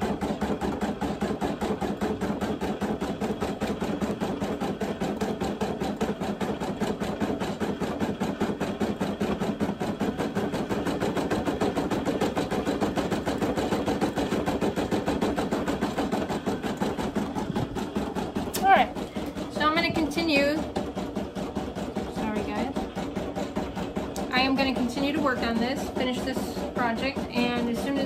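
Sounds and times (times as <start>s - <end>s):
embroidery machine stitching: 0.0s - 28.0s.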